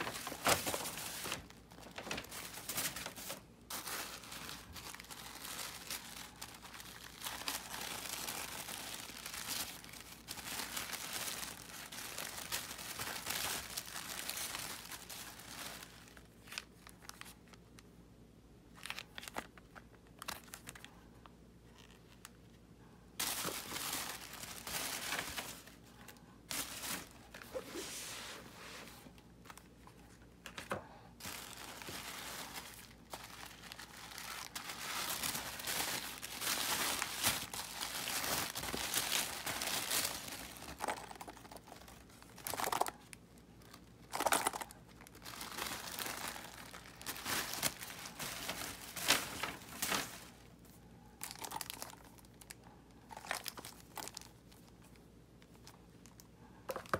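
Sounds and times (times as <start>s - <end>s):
wrapping paper rustling: 0.0s - 17.8s, 18.7s - 22.6s, 23.2s - 56.9s.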